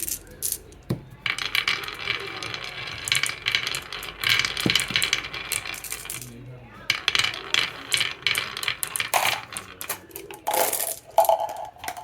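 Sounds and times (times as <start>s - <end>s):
marbles rolling on wooden track: 0.0s - 12.0s.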